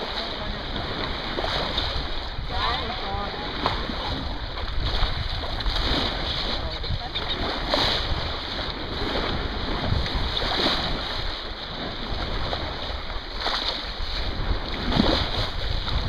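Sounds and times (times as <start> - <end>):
water rushing along boat hull: 0.0 - 16.0
water splashes: 0.0 - 16.0
wind buffeting microphone: 0.0 - 16.0.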